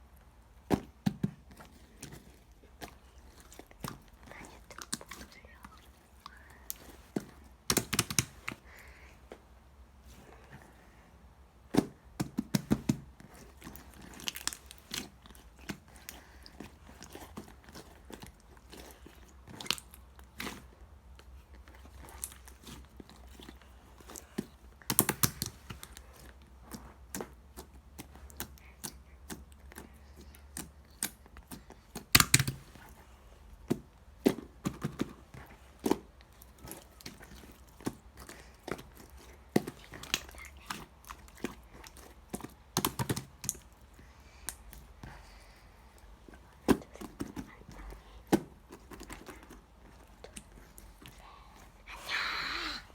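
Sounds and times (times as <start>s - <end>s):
slime squishing with sticky pops: 0.0s - 9.0s, 11.6s - 51.8s.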